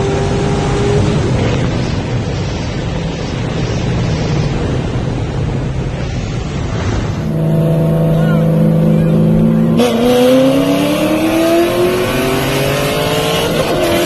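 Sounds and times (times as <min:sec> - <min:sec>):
car engine drone: 0:00.0 - 0:14.0
wind and road rush: 0:00.0 - 0:14.0.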